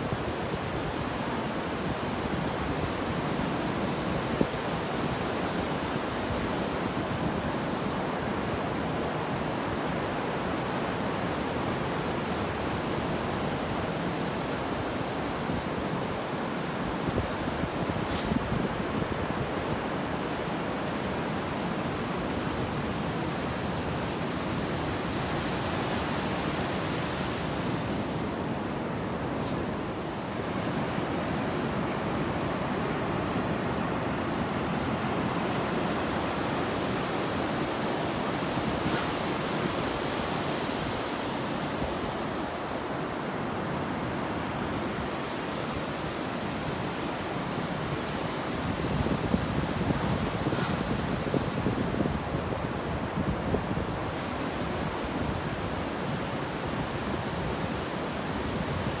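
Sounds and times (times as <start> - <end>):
ocean surf on beach: 0.0 - 59.0.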